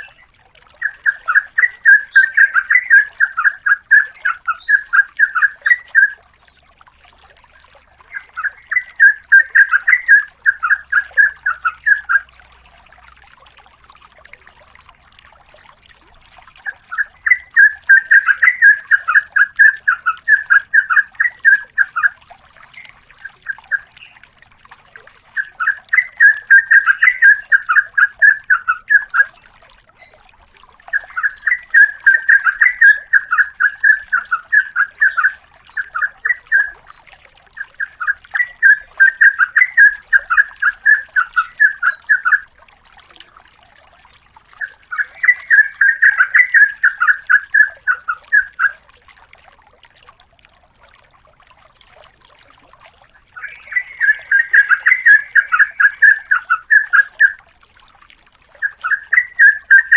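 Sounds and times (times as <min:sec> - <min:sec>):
bird bubbling song: 0:00.0 - 0:59.9.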